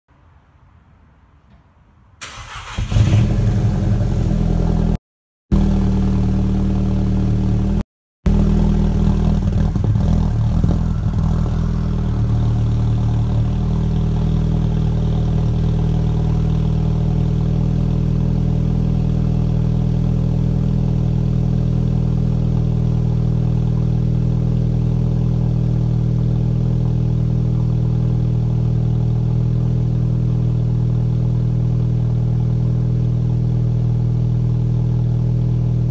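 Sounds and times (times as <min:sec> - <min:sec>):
car engine idling: 0:05.5 - 0:35.9.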